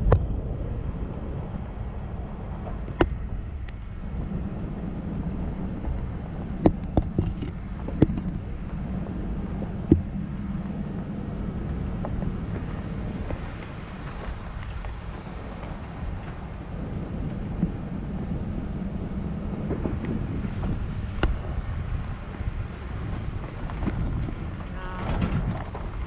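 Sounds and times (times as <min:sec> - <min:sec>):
vehicle driving on gravel: 0:00.0 - 0:26.0.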